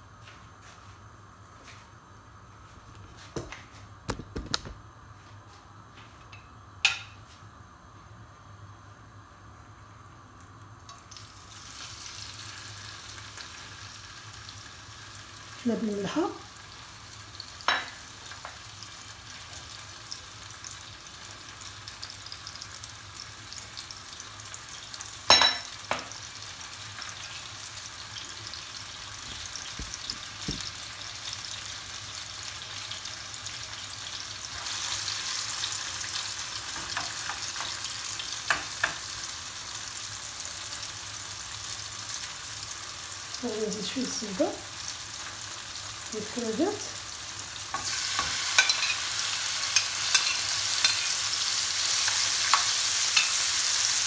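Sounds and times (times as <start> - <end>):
oil sizzling in frying pan: 9.5 - 54.0.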